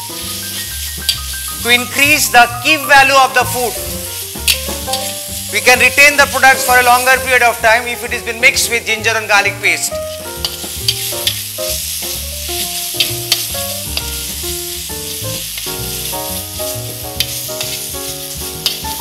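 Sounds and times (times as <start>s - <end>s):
masala sizzling in oil: 0.0s - 19.0s.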